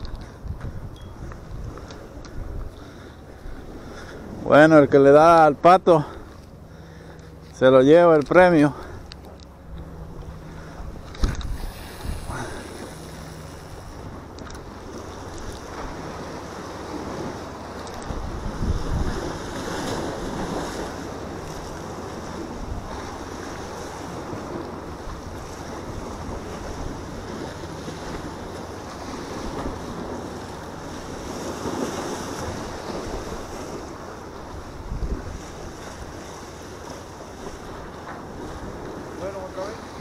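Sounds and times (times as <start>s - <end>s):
sea waves splashing against rocks: 0.0s - 40.0s
wind buffeting microphone: 0.0s - 40.0s.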